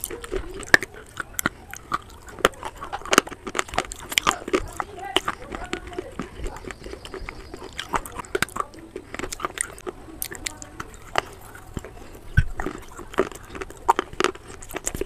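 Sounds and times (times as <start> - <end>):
sharp crunches of chewing: 0.0 - 15.0
wet mouth sounds: 0.0 - 15.0.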